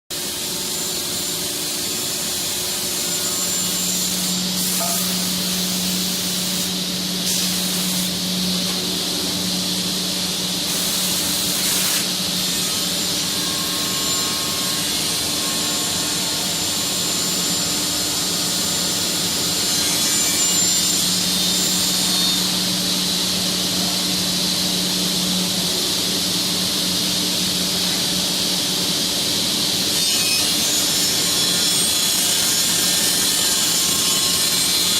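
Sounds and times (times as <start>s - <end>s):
cnc router cutting wood: 0.2s - 34.9s.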